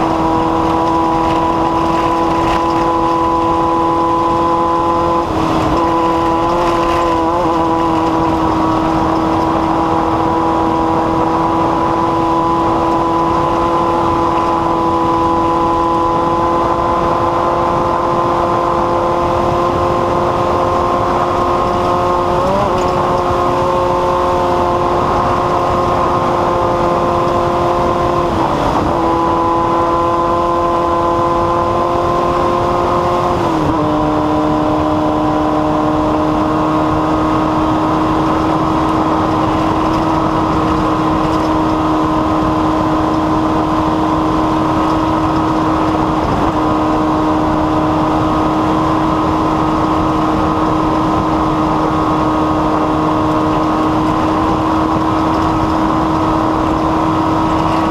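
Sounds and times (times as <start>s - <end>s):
engine running: 0.0s - 57.9s.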